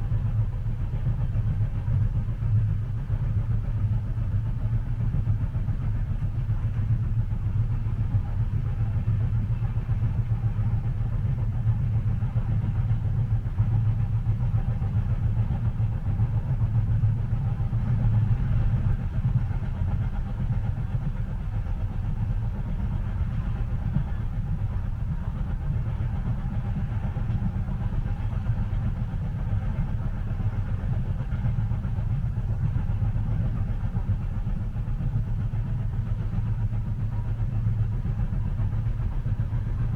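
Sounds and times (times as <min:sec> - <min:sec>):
train rumbling inside carriage: 0:00.0 - 0:39.9.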